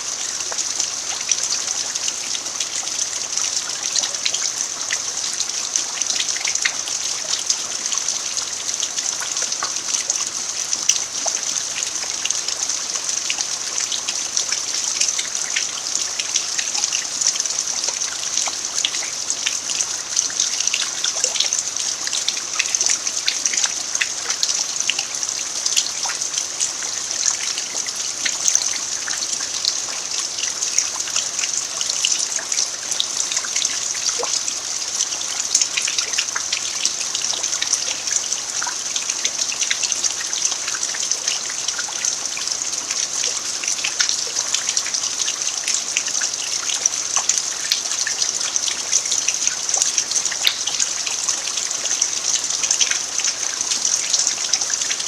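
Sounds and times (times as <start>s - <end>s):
rain falling on dirt: 0.0s - 55.0s.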